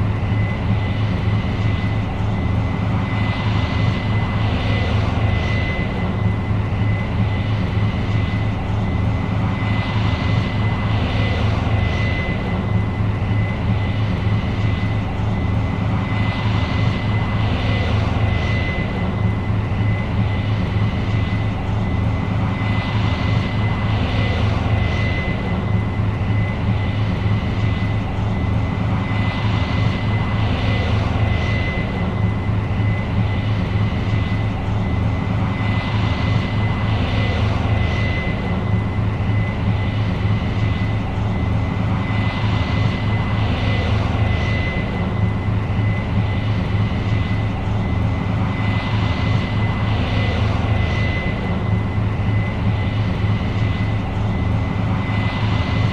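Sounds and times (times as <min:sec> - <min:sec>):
combine engine drone: 0:00.0 - 0:55.9
high whine: 0:00.0 - 0:55.9.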